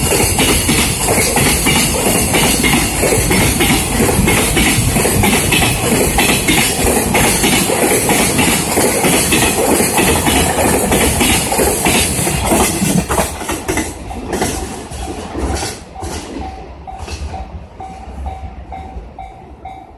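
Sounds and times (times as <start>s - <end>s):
freight train wheels clattering: 0.0s - 19.4s.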